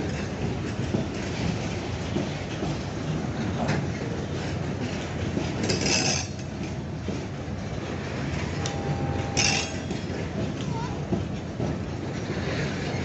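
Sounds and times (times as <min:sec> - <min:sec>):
freight train rumbling and clattering: 0:00.0 - 0:13.0.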